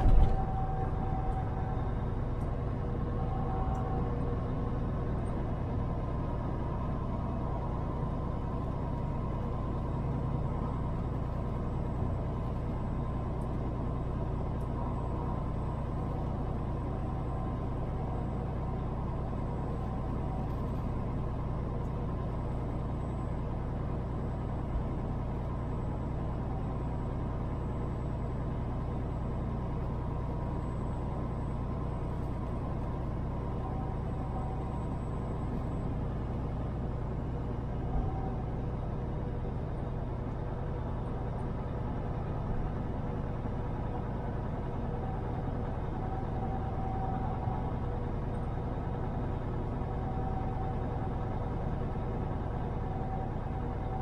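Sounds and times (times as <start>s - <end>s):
road and tyre noise: 0.0s - 54.0s
truck engine drone: 0.0s - 54.0s.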